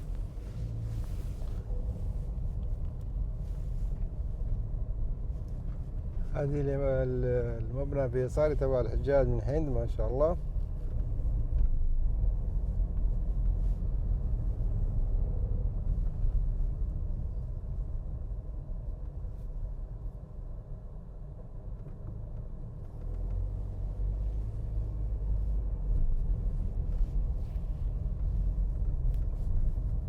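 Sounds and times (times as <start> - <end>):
car rumbling while driving: 0.0 - 30.0.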